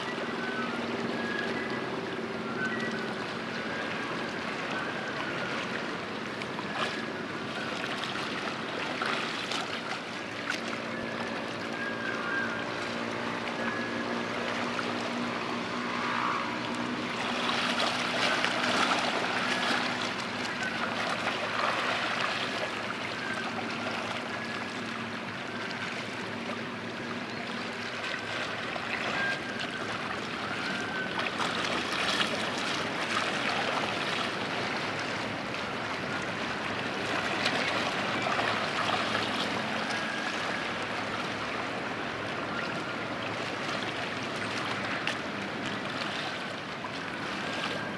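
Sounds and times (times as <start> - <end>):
water rushing and splashing: 0.0 - 47.9.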